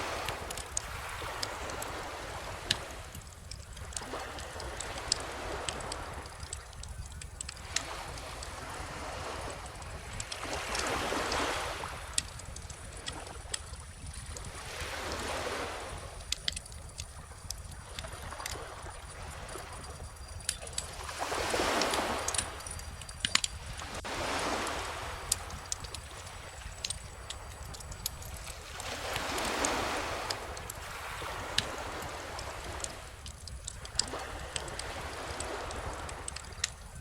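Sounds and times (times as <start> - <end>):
bonfire crackling and popping: 0.0 - 37.0
ocean waves washing: 0.0 - 37.0.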